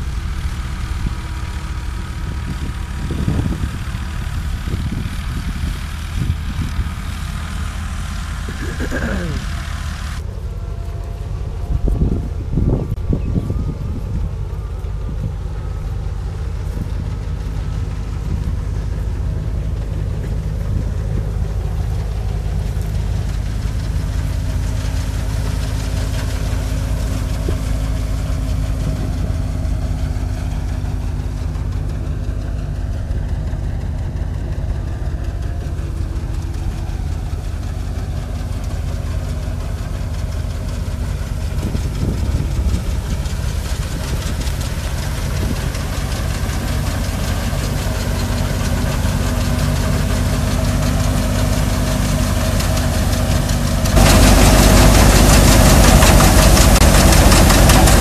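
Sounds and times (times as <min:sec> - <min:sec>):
thresher machine droning: 0:00.0 - 0:58.0.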